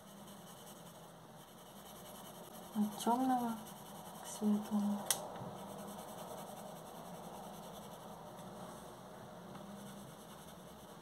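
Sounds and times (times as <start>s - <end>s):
pencil shading on paper: 0.0s - 4.9s, 5.5s - 8.3s, 9.7s - 11.0s.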